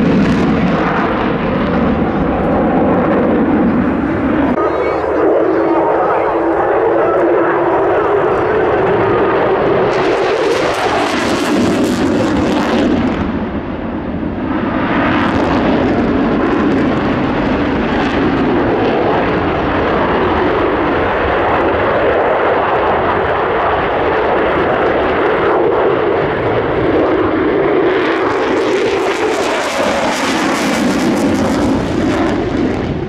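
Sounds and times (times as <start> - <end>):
fighter jet engine roar: 0.0 - 33.0.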